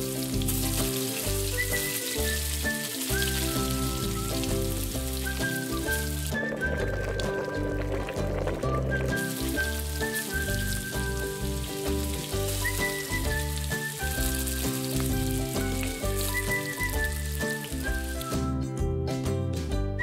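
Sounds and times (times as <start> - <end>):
food sizzling in a hot pan: 0.0 - 18.4
background music with high melody: 0.0 - 20.0.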